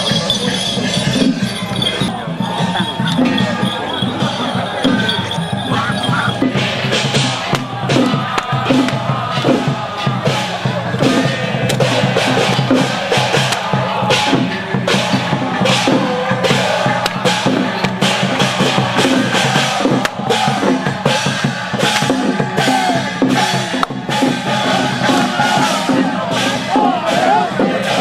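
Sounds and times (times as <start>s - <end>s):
crowd: 0.0s - 28.0s
loud music with heavy drumming: 0.8s - 28.0s.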